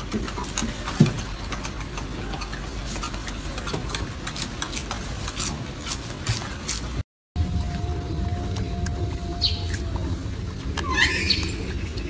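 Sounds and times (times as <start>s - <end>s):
monkey chewing: 0.0s - 7.0s, 7.6s - 12.0s.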